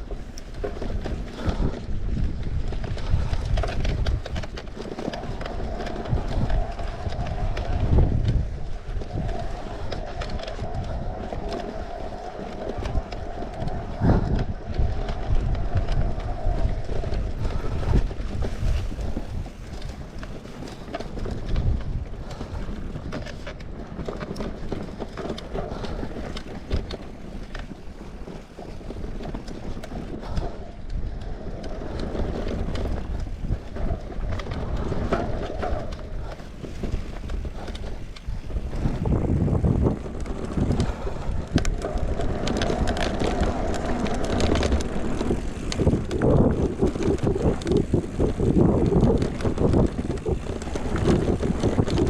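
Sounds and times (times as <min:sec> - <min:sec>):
bike frame clicks and rattles: 0:00.0 - 0:52.0
bike rumbling over rough ground: 0:00.0 - 0:52.0
wind on microphone: 0:00.0 - 0:52.0.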